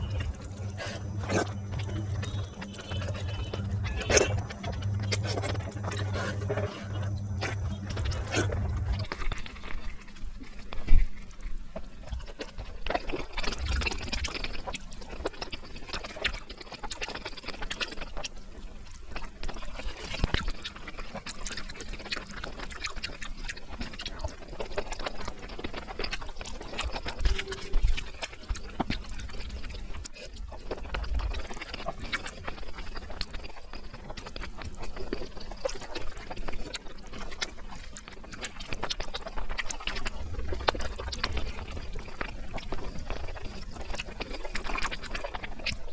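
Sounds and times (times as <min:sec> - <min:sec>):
wet chewing and mouth smacking: 0:00.0 - 0:45.9.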